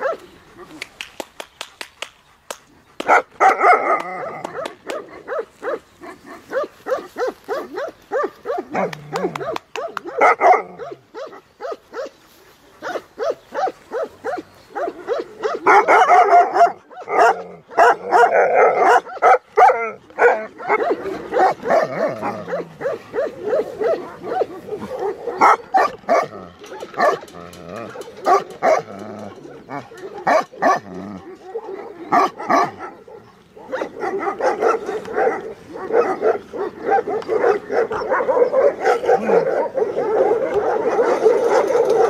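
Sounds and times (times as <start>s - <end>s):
dogs barking: 0.0s - 0.8s, 3.0s - 42.0s.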